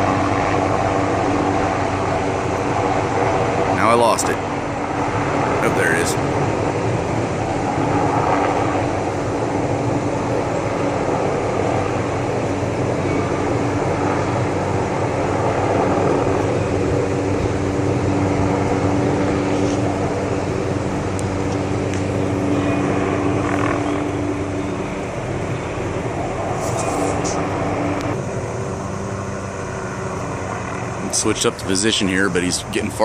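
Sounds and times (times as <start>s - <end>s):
helicopter drone: 0.0s - 33.0s.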